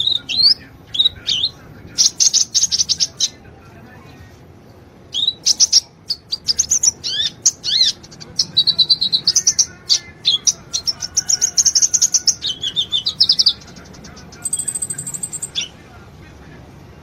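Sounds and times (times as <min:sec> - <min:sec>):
bird chirping and trilling: 0:00.0 - 0:03.4, 0:05.1 - 0:15.8.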